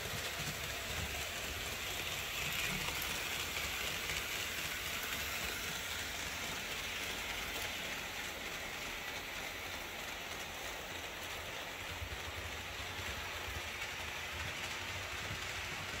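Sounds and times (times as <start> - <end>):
model train wheels rolling on track: 0.0 - 16.0.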